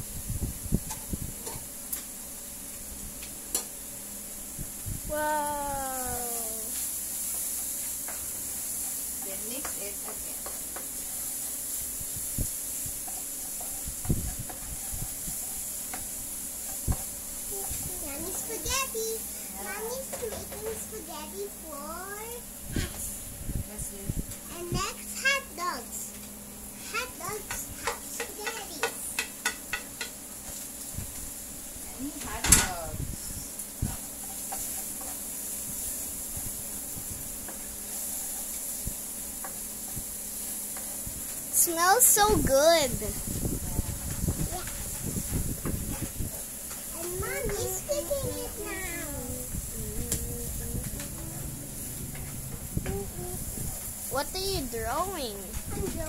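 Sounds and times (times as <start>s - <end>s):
food sizzling in frying pan: 0.0s - 23.5s, 24.2s - 56.0s.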